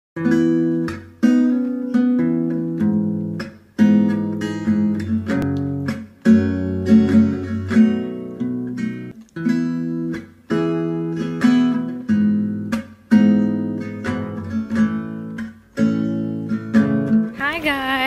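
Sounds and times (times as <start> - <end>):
guitar chords strummed: 0.2 - 18.0.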